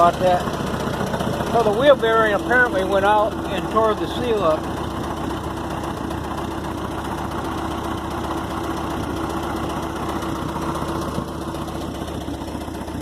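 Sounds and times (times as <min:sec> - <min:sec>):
loader engine idling: 0:00.0 - 0:13.0.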